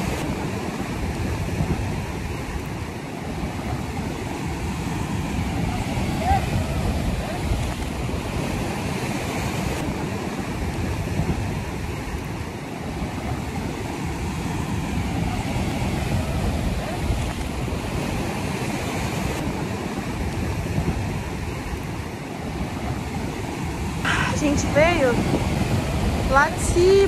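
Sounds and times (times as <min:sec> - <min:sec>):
surf washing on rocks: 0:00.0 - 0:27.0
wind buffeting microphone: 0:00.0 - 0:27.0.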